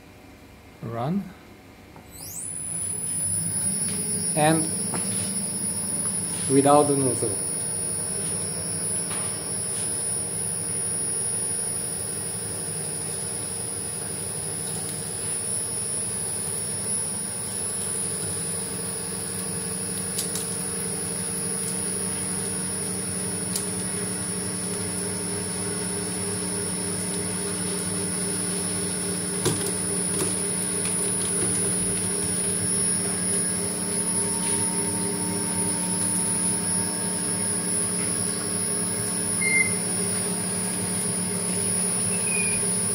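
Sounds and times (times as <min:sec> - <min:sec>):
oil press motor humming: 0:02.0 - 0:42.9.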